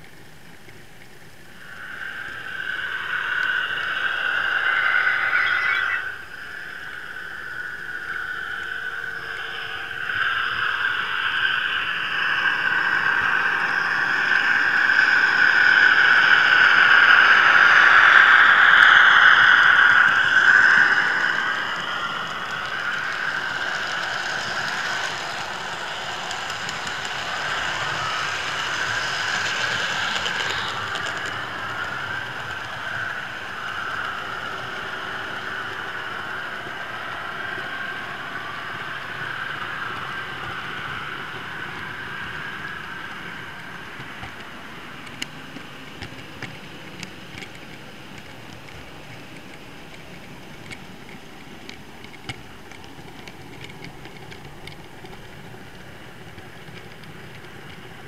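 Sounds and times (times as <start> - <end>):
model train motor whine: 0.0 - 58.0
wheels rattling on rails: 0.0 - 58.0.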